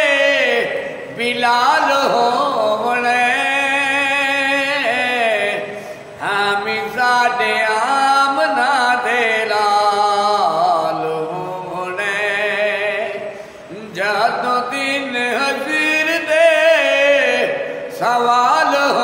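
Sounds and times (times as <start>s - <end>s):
man singing devotional poetry: 0.0s - 19.0s.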